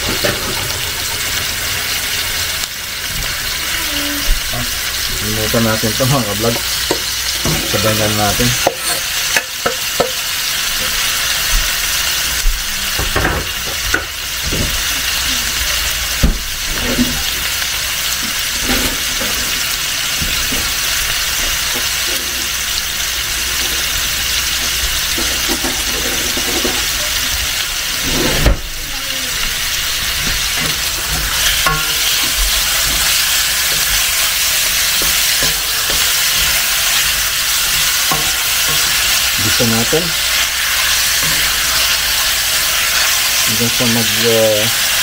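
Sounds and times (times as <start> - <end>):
beef and onion sizzling in pan: 0.0 - 45.0.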